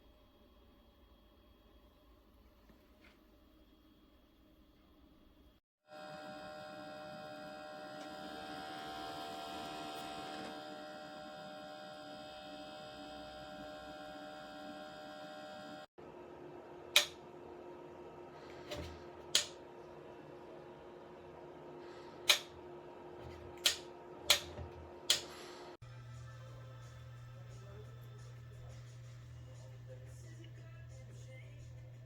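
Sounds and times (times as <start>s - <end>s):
humidifier electrical hum: 0.0s - 32.0s.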